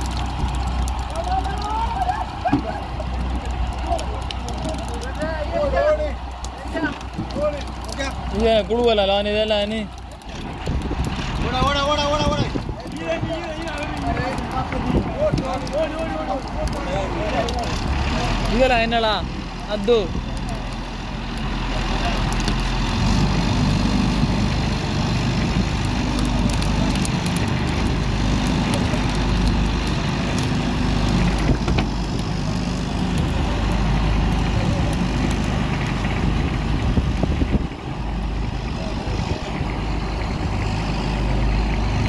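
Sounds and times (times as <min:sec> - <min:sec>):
boat engine running: 0:00.0 - 0:42.0
water noise: 0:00.0 - 0:42.0
wind: 0:00.0 - 0:42.0.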